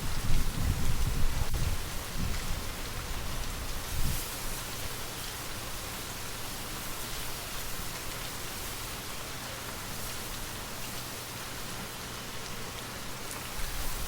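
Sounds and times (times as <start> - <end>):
gentle rain falling: 0.0 - 14.0
light wind: 0.0 - 14.0.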